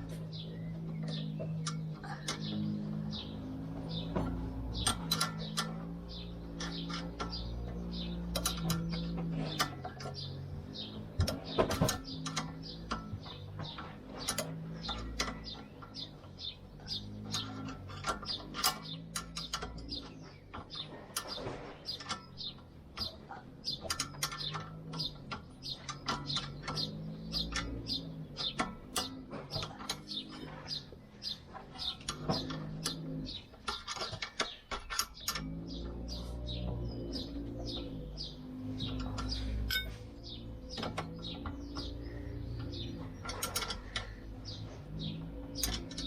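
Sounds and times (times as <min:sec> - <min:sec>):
hand tools tapping on metal: 0:00.0 - 0:46.0.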